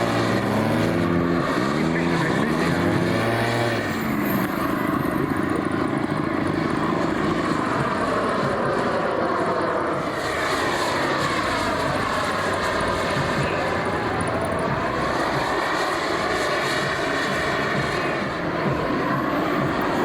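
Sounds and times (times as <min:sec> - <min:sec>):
model aircraft engine in flight: 0:00.0 - 0:20.0.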